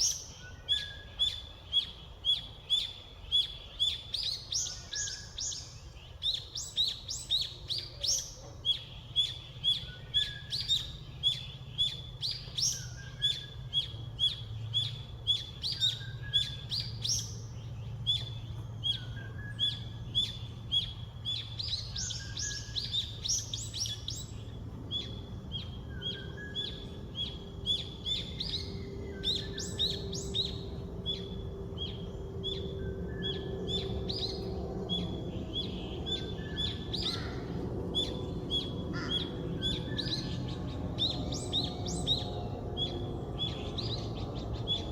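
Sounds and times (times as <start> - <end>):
fainter lower bird calls: 0.0 - 44.9
low steady rumble: 0.0 - 44.9
songbirds chirping: 0.0 - 44.9.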